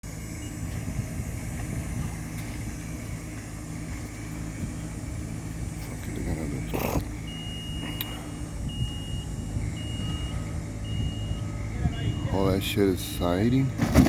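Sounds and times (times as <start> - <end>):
heavy vehicle engine idling: 0.0 - 14.0.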